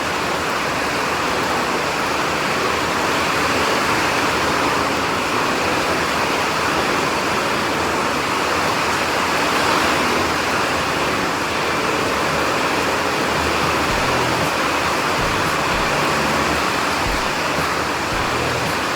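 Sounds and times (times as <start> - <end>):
heavy rain rushing: 0.0 - 18.9.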